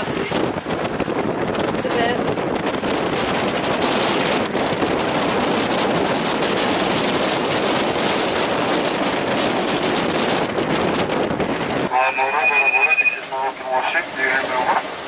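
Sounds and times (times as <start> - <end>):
waves rushing: 0.0 - 15.0
wind buffeting microphone: 0.0 - 15.0.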